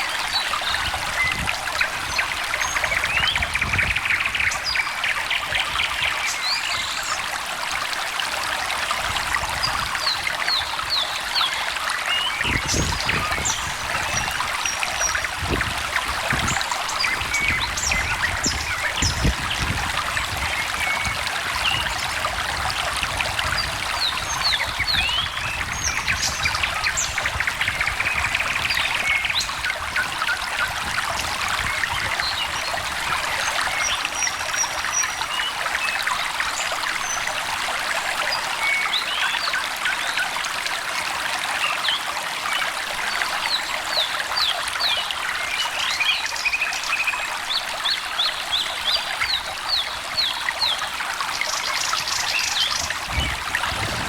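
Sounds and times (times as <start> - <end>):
small stream babbling: 0.0 - 54.0.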